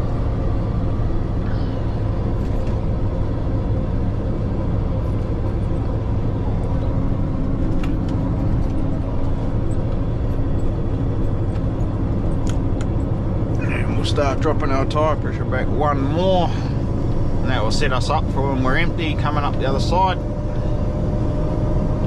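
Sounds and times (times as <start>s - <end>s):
diesel truck engine droning: 0.0s - 22.0s.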